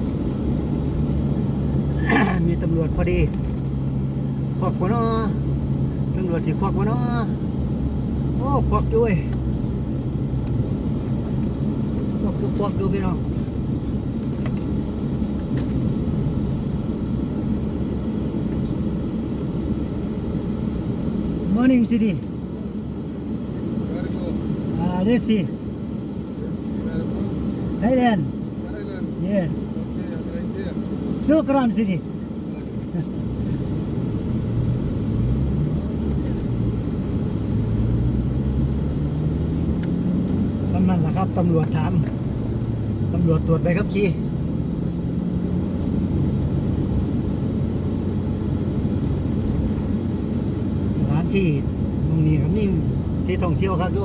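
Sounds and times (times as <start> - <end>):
motorcycle engine hum: 0.0 - 21.5, 32.1 - 54.0
road and wind noise: 0.0 - 54.0.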